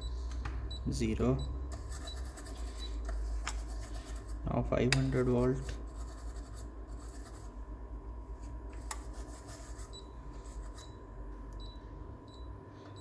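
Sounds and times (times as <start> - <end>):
faint steady whine: 0.0 - 13.0
low steady hum: 0.0 - 13.0.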